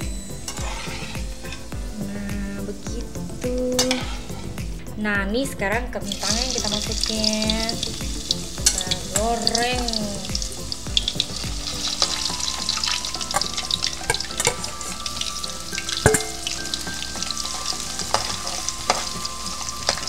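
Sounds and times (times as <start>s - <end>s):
potatoes deep-frying in oil: 0.0s - 4.8s, 5.9s - 20.0s.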